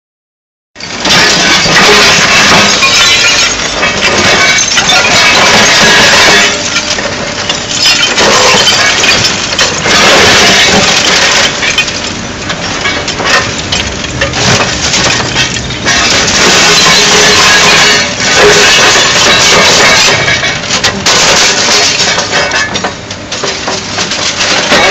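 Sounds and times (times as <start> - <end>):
masonry breaking and crashing: 0.8 - 24.9.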